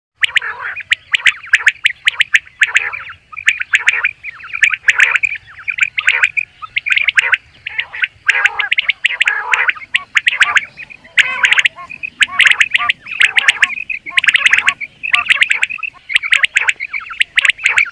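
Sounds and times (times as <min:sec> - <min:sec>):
quail calling: 0:00.2 - 0:17.9.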